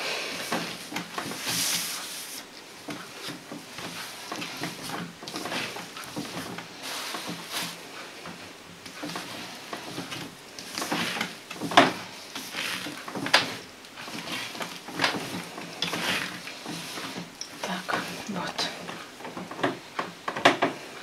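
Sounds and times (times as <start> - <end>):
hands kneading sticky dough: 0.0 - 21.0.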